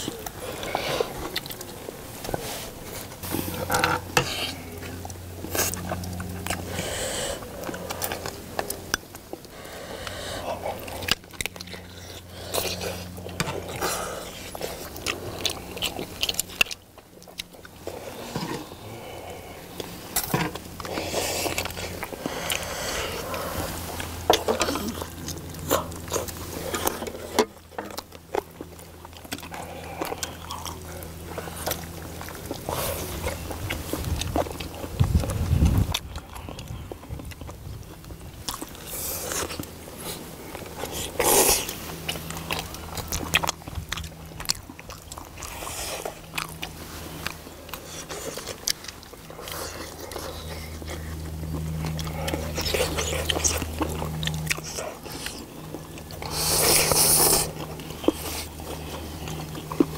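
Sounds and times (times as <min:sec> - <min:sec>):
chewing and biting: 0:00.0 - 0:59.9
low steady hum: 0:00.0 - 0:59.9.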